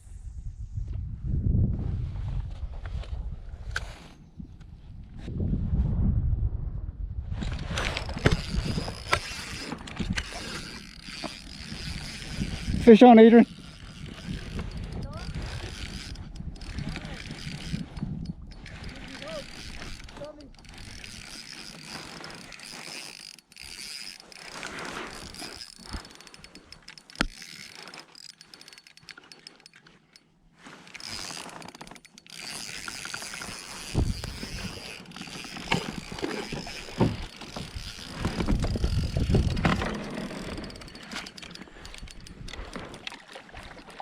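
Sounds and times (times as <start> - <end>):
fishing reel gears clicking: 7.8 - 43.6.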